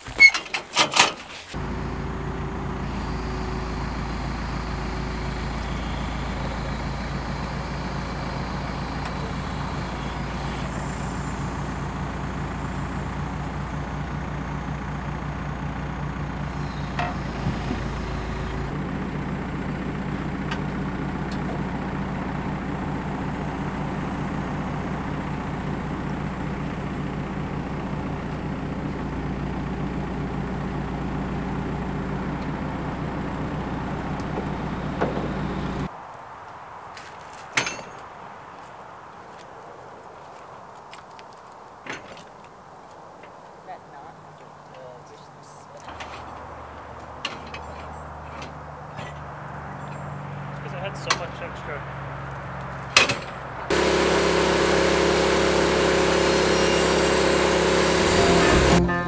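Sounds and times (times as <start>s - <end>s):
diesel engine running: 0.0s - 35.9s, 42.9s - 59.0s.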